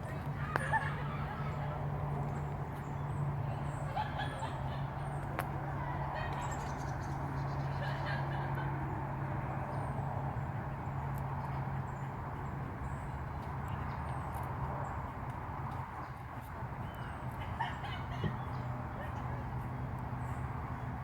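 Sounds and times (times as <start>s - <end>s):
birds calling: 0.0s - 9.0s, 9.7s - 21.0s.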